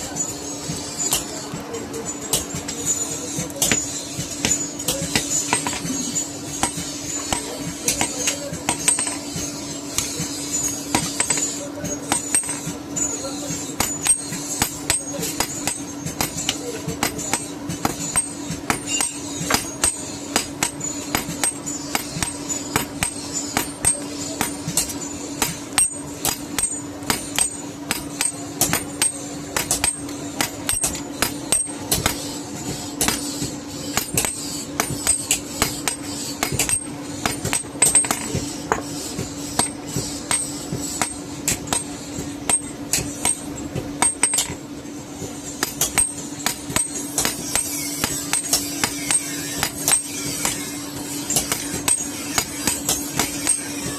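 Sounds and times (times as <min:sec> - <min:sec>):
hammer striking iron on anvil: 0:00.0 - 0:44.6, 0:45.5 - 0:53.9
steady low hum: 0:00.0 - 0:53.9.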